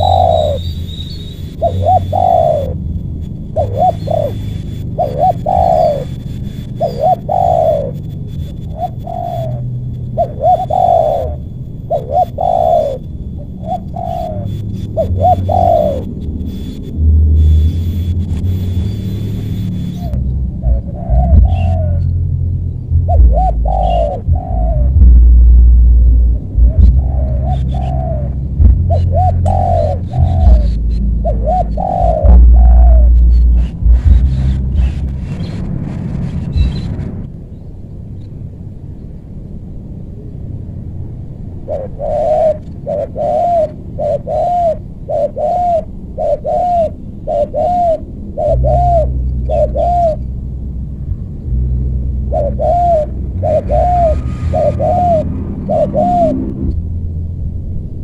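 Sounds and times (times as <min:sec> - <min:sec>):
dove cooing: 0:00.0 - 0:16.8, 0:17.4 - 0:22.3, 0:22.9 - 0:25.6, 0:26.3 - 0:37.0, 0:41.6 - 0:50.3, 0:52.2 - 0:56.7
low rumble: 0:00.0 - 0:42.8, 0:48.0 - 0:58.0.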